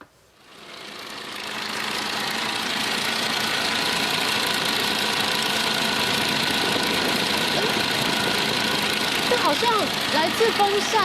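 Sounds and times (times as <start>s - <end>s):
car engine running: 0.4s - 11.0s.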